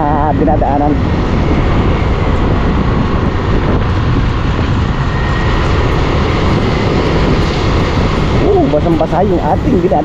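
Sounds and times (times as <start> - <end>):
motorcycle cruising: 0.0 - 10.0
wind on microphone: 0.0 - 10.0.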